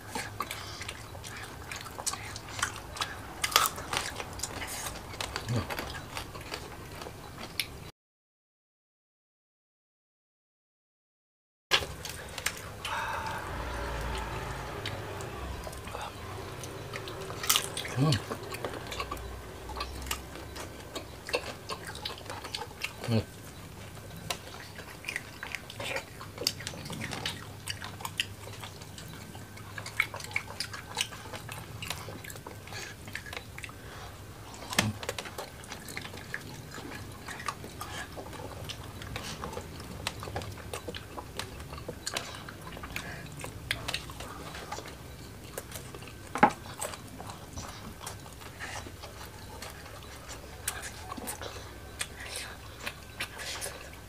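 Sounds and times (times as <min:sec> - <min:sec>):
chewing and mouth smacks: 0:00.0 - 0:07.8, 0:16.2 - 0:54.0.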